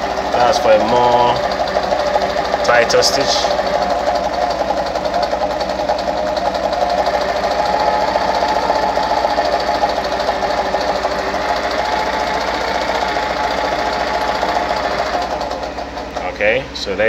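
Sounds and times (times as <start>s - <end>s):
sewing machine clattering: 0.0s - 17.0s.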